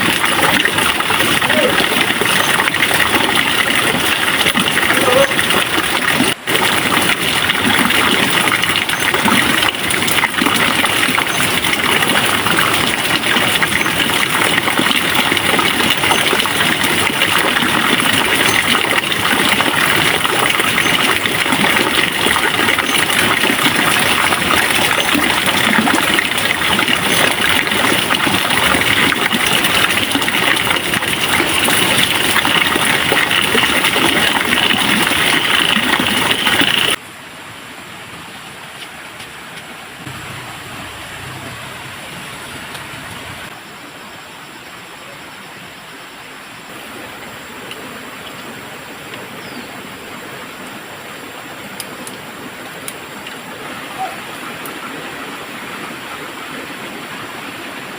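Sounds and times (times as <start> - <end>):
rushing flowing water: 0.0 - 57.9.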